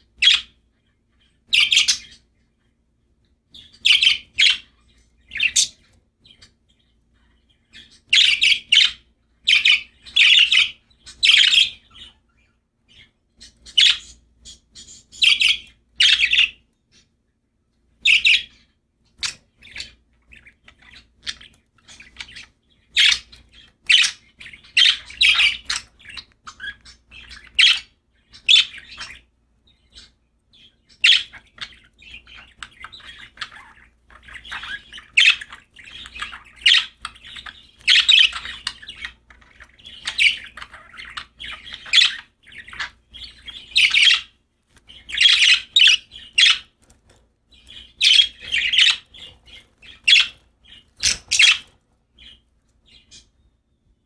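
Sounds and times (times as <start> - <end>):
budgerigars chirping: 0.0 - 2.8, 3.5 - 17.2, 18.0 - 53.7.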